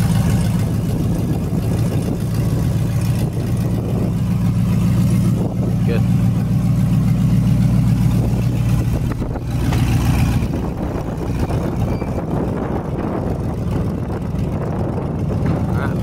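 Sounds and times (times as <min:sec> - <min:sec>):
pickup truck engine idling: 0:00.0 - 0:16.0.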